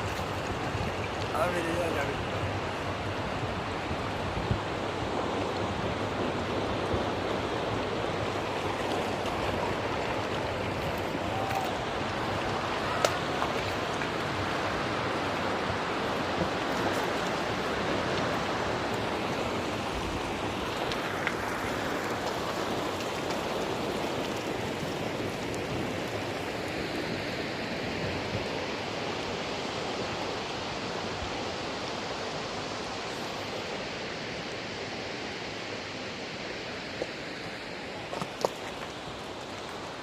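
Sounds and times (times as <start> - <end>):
torrential rain falling: 0.0 - 38.2.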